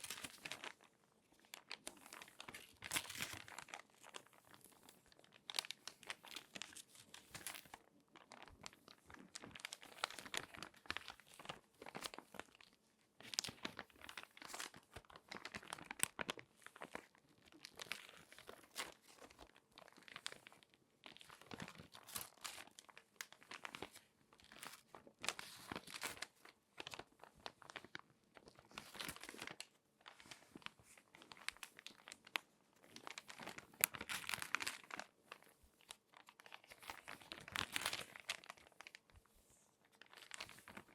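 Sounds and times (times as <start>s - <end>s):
magazine pages crinkling: 0.0s - 40.9s.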